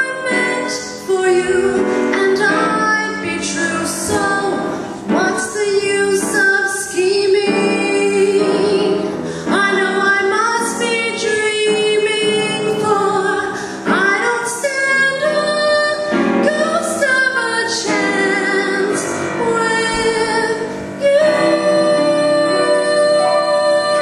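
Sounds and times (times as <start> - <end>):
musical accompaniment: 0.0 - 24.0
woman singing into a microphone: 0.0 - 24.0.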